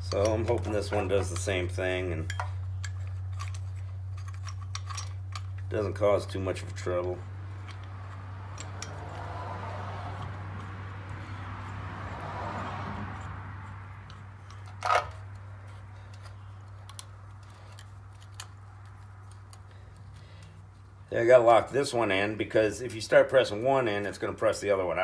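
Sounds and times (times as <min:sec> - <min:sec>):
metal tools scraping: 0:00.0 - 0:21.1
steady low hum: 0:00.0 - 0:22.8.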